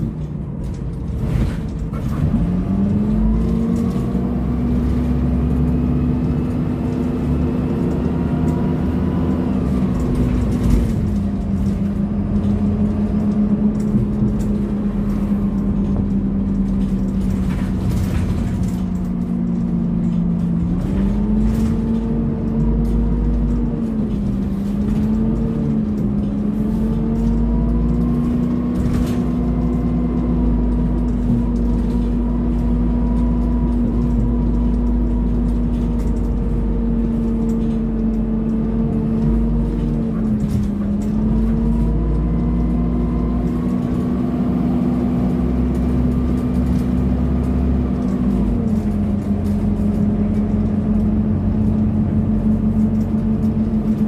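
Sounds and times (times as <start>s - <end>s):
bus engine cooling fan drone: 0.0s - 54.0s
low road rumble: 0.0s - 54.0s.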